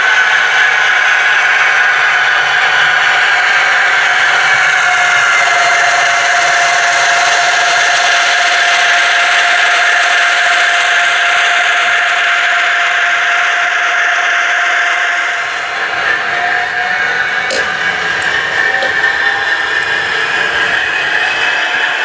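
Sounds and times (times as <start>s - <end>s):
model locomotive whirring: 0.0s - 22.0s.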